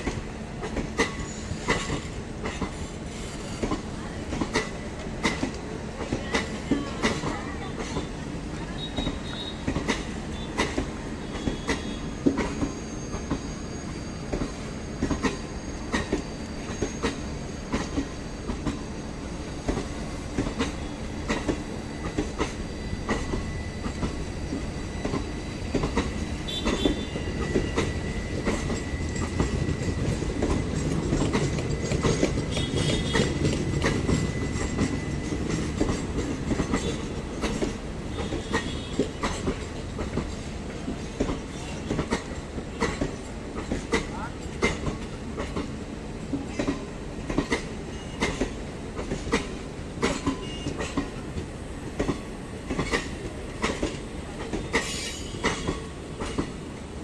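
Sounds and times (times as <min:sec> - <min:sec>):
train wheels clattering over rail joints: 0:00.0 - 0:08.2, 0:08.8 - 0:13.6, 0:14.2 - 0:57.0
train rumble: 0:00.0 - 0:57.0.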